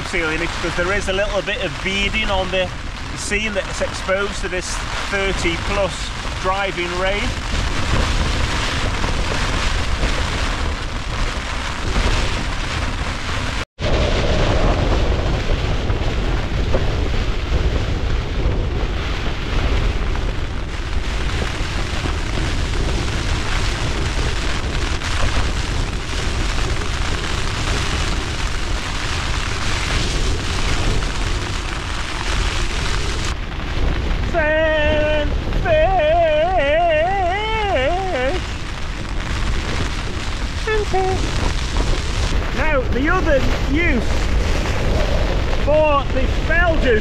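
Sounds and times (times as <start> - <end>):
rain on tent flysheet: 0.0 - 47.0
storm wind roaring on tent: 0.0 - 47.0.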